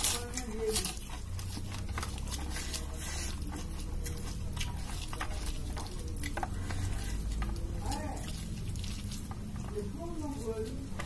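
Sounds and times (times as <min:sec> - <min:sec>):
hand squishing food on a plate: 0:00.0 - 0:11.0
wet chewing and mouth clicks: 0:00.0 - 0:11.0.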